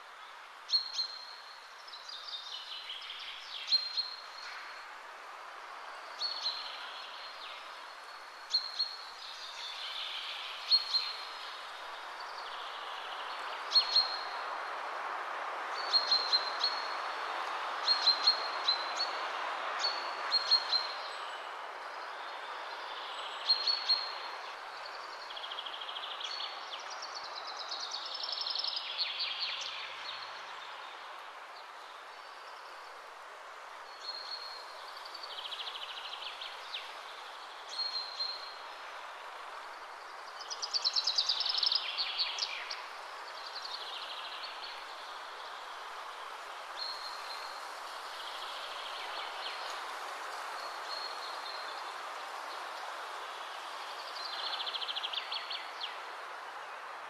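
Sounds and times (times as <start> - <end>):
background hiss: 0.0 - 57.0.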